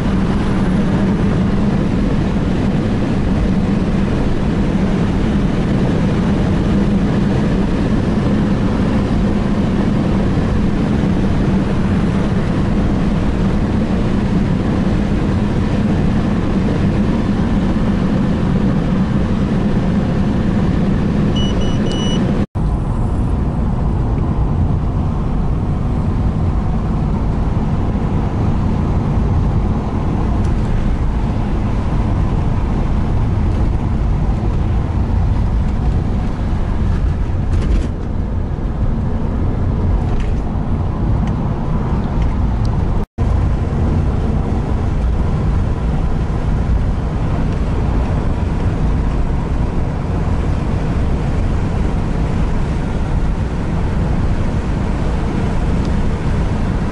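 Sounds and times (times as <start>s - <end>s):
car engine and tyre road noise: 0.0s - 56.9s.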